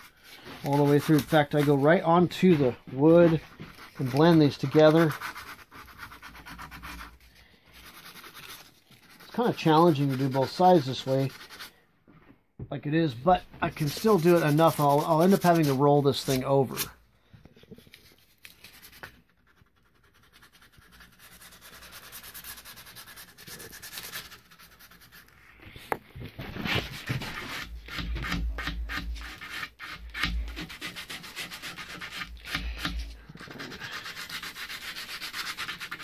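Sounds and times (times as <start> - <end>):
sandpaper rasping strokes: 0.0 - 11.7, 13.6 - 16.9, 19.9 - 25.3, 26.7 - 36.0.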